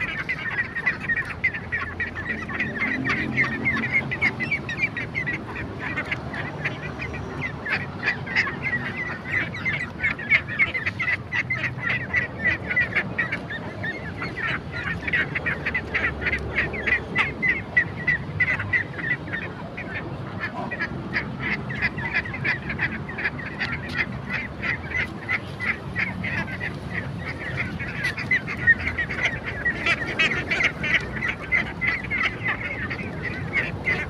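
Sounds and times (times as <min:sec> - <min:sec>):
ducks quacking: 0:00.0 - 0:34.0.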